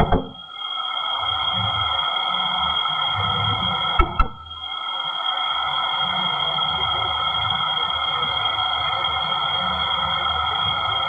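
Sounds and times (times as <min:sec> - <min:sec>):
high electronic whine: 0:00.0 - 0:11.0.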